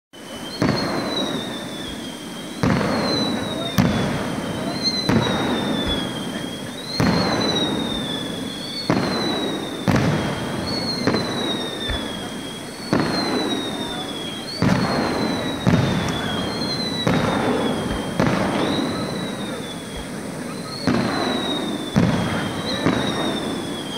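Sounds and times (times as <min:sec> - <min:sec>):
descending whistle: 0:00.2 - 0:23.9
firework shells bursting: 0:00.4 - 0:23.9.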